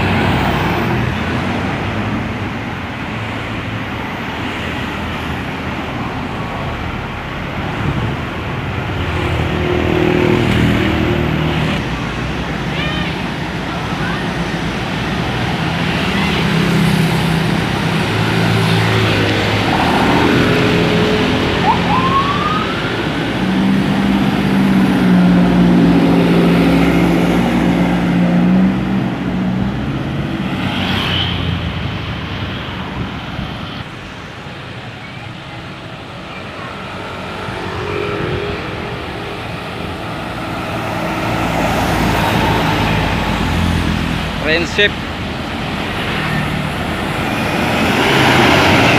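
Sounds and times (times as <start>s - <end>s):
bus engine: 0.0s - 48.9s
road noise: 0.0s - 48.9s.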